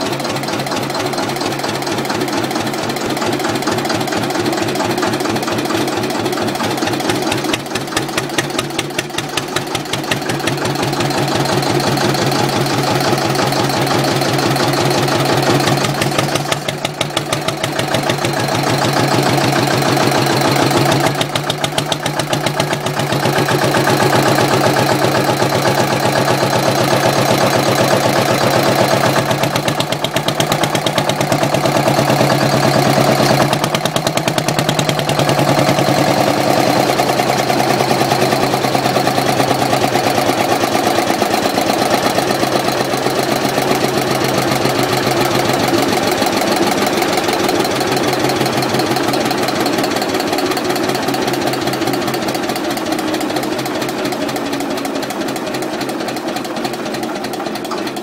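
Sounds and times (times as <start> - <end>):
diesel generator engine running: 0.0 - 58.0.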